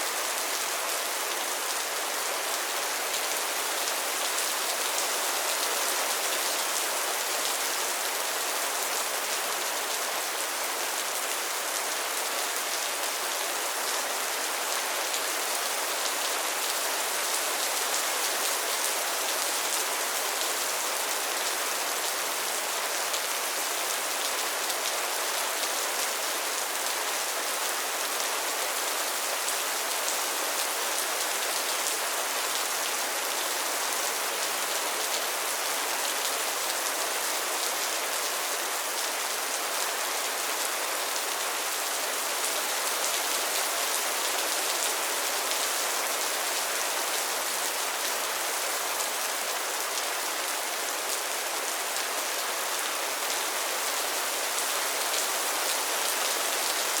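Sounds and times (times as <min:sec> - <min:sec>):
rain falling on a pond: 0:00.0 - 0:57.0.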